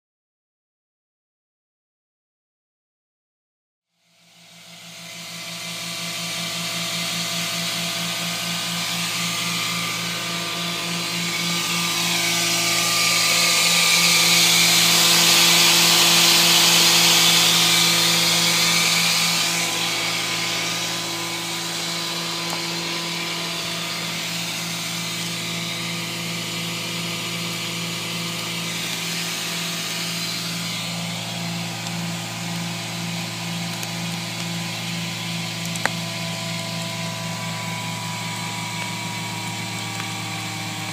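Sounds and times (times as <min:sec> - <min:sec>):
hydraulic power unit humming: 0:04.2 - 0:40.9
hydraulic hiss: 0:04.4 - 0:40.8.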